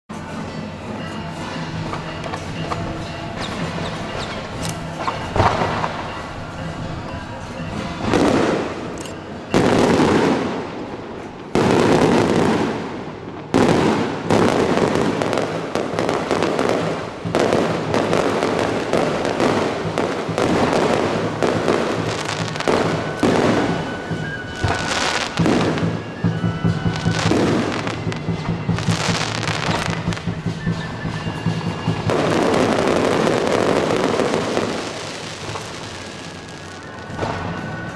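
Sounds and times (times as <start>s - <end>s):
fireworks crackling: 0.1s - 37.9s
firework bangs: 0.3s - 37.9s.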